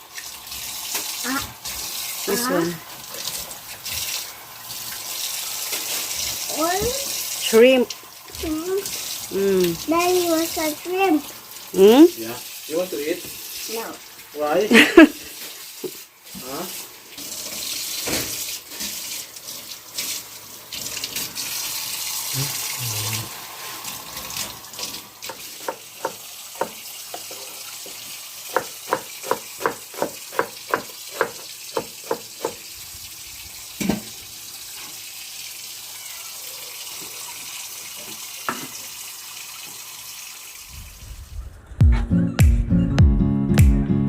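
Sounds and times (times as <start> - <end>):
tap water running into sink: 0.0 - 40.8.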